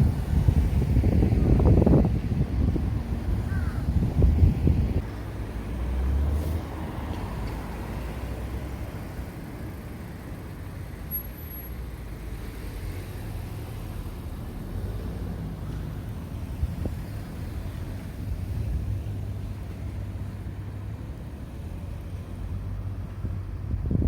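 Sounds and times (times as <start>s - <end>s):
low traffic rumble: 0.0s - 24.0s.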